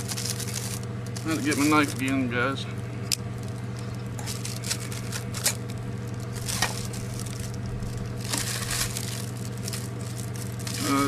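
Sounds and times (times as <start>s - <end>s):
paper packaging crinkling: 0.0s - 2.4s, 3.3s - 11.0s
steady low hum: 0.0s - 11.0s.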